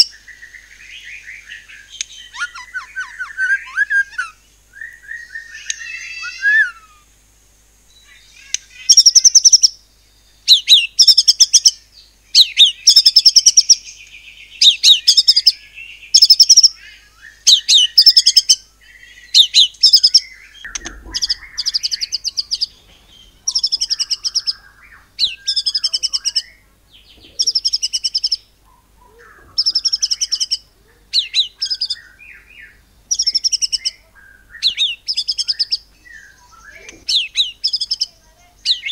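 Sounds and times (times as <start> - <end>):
bird singing fast trilled phrases: 0.0 - 7.0, 7.9 - 38.9.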